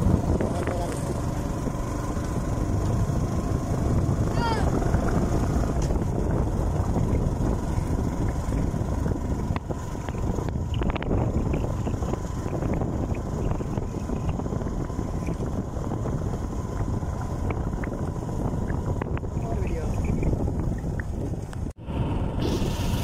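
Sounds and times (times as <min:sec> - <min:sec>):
motorcycle engine and road noise: 0:00.0 - 0:23.0
wind rushing over microphone: 0:00.0 - 0:23.0.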